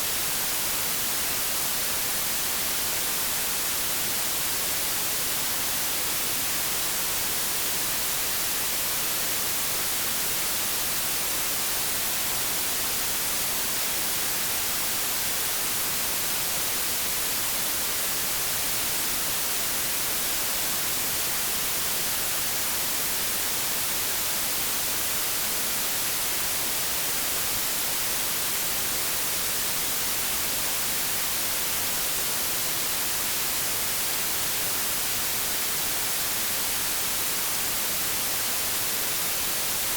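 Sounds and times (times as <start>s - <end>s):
white noise static hiss: 0.0s - 39.9s.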